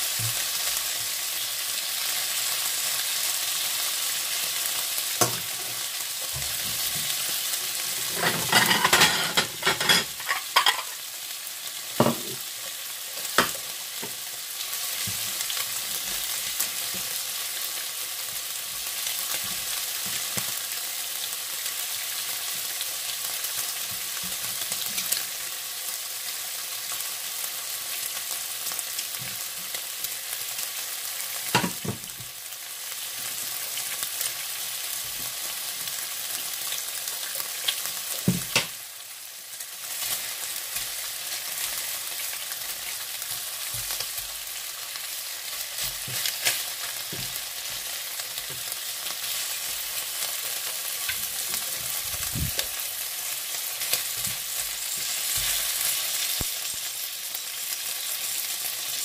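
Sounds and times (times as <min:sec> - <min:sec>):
meat sizzling in oil: 0:00.0 - 0:59.0.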